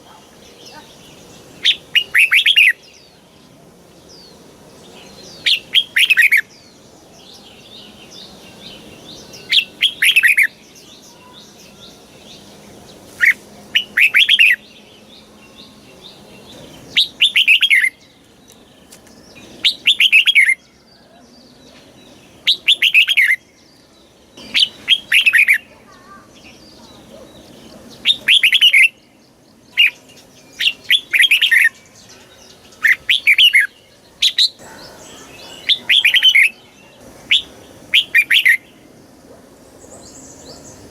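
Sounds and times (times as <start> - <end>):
bird singing descending notes: 0.4 - 39.0.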